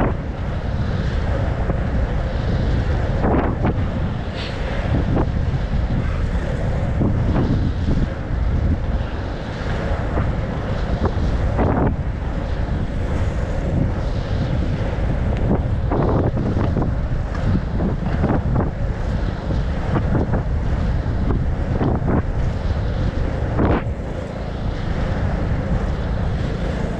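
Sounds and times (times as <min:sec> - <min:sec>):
low rumble: 0:00.0 - 0:26.9
wind buffeting microphone: 0:00.0 - 0:26.9.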